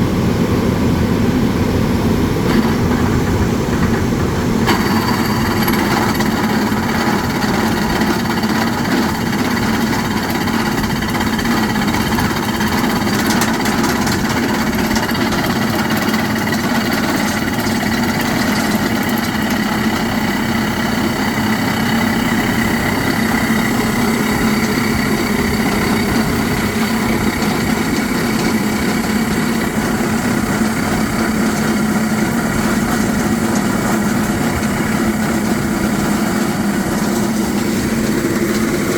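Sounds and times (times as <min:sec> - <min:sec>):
drilling rig humming: 0:00.0 - 0:38.9.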